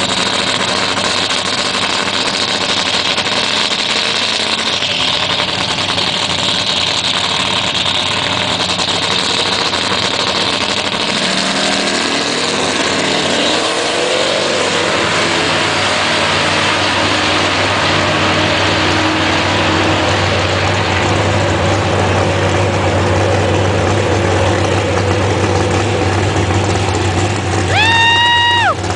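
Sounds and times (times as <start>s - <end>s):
truck engine droning: 0.0s - 28.9s.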